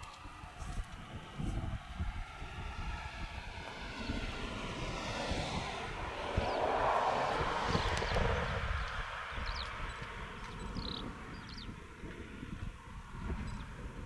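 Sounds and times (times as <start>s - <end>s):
military aircraft passing: 0.1s - 14.0s.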